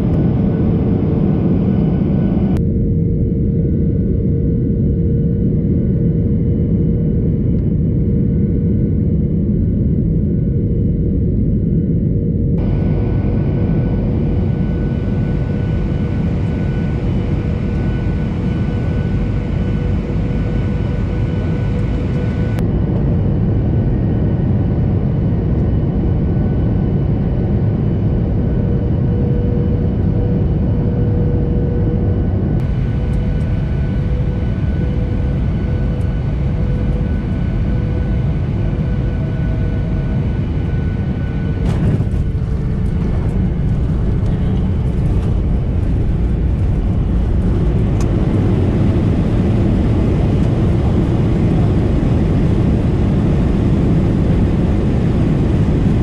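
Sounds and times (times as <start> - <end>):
constant hum tone: 0.0 - 56.0
jet engine roar in cabin: 0.0 - 56.0.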